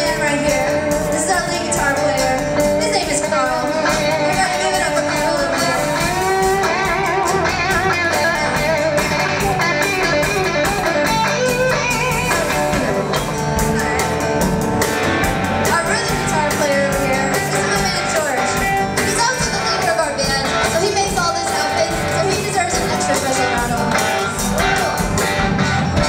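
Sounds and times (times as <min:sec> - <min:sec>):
electric guitar: 0:00.0 - 0:26.0
live band playing: 0:00.0 - 0:26.0.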